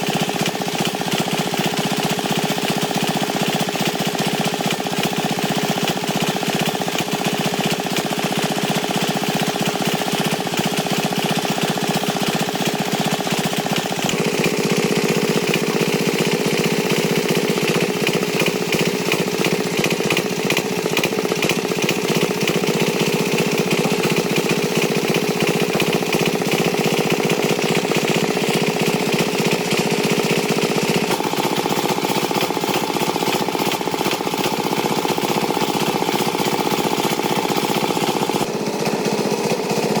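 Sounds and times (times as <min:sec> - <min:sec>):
tractor engine rattling: 0:00.0 - 0:40.0.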